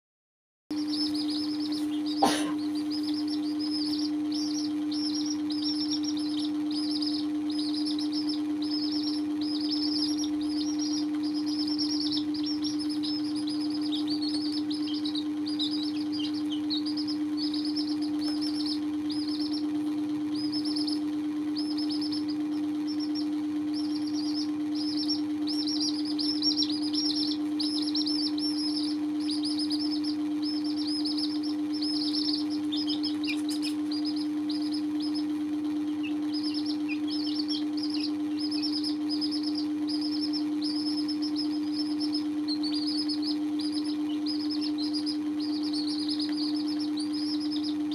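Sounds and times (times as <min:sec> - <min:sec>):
baby chicks peeping: 0:00.7 - 0:47.9
steady low hum: 0:00.7 - 0:47.9.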